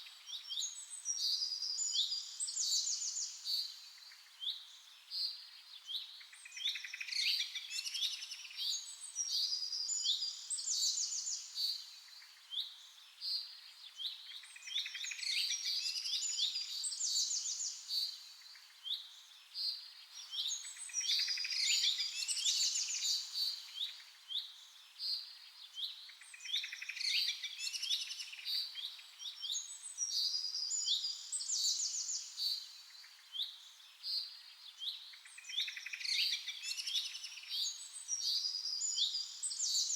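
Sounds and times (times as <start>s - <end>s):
songbirds chirping and trilling: 0.2s - 39.9s.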